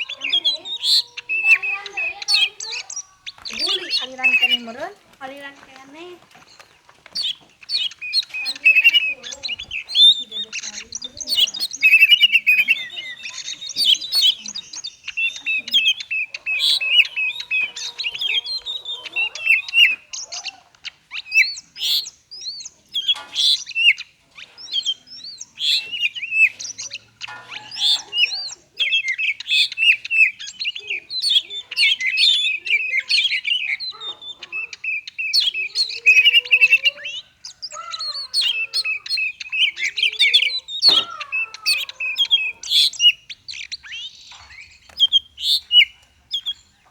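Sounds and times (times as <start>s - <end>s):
bird singing chirps and whistles: 0.0s - 4.8s, 7.2s - 46.7s.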